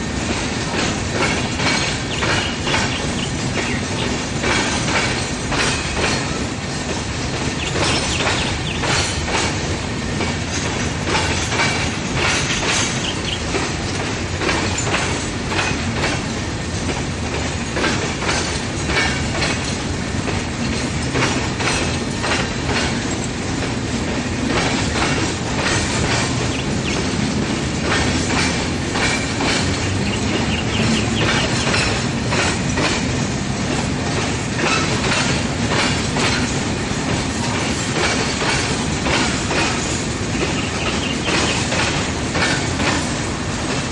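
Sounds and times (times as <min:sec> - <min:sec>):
train wheels clattering on rails: 0:00.0 - 0:43.9.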